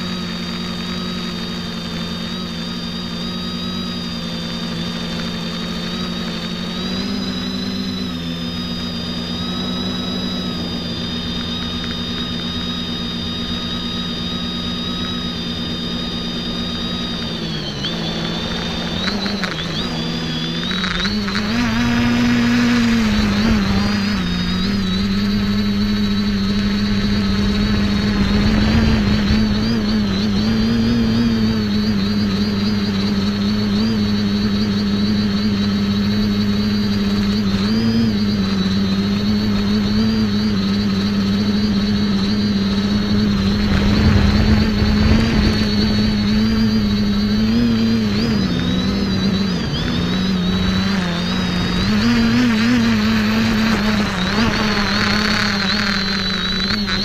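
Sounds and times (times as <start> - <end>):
drone motors humming: 0.0 - 57.0
rushes of noise: 0.0 - 57.0.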